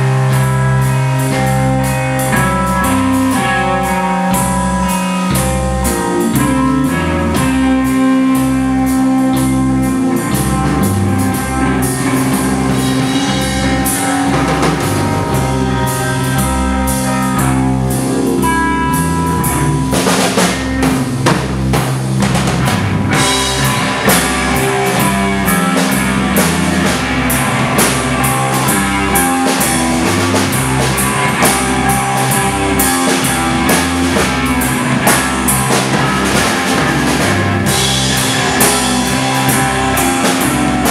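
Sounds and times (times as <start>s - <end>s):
drum kit: 0.0s - 40.9s
electric bass guitars: 0.0s - 40.9s
electric guitar: 0.0s - 40.9s
keyboard: 0.0s - 40.9s
live rock band: 0.0s - 40.9s.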